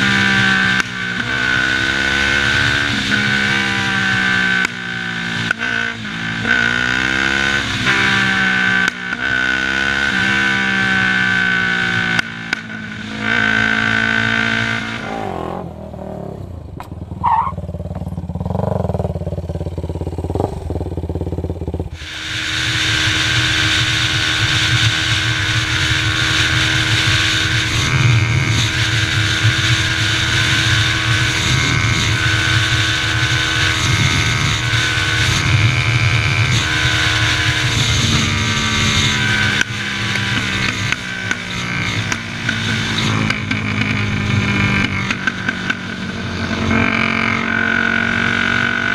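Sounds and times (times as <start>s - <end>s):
quad engine revving: 0.0s - 48.9s.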